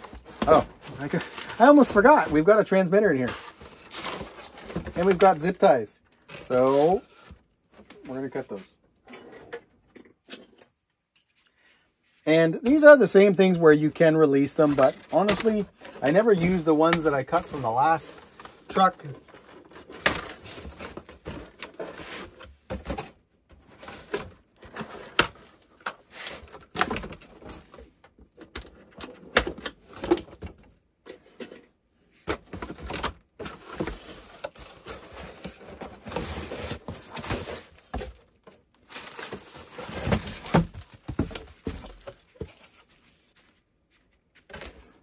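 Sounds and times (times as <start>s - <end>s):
cardboard rustling: 0.0s - 5.7s, 6.4s - 8.4s, 12.7s - 30.6s, 32.2s - 45.0s.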